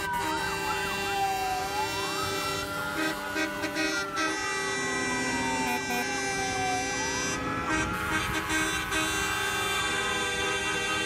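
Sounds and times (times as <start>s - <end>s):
siren wailing: 0.0s - 11.0s
trucks driving past: 0.0s - 11.0s.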